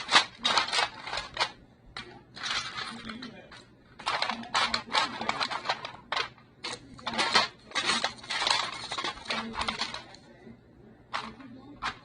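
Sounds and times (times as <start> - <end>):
decorations rustling and clattering: 0.0 - 12.0.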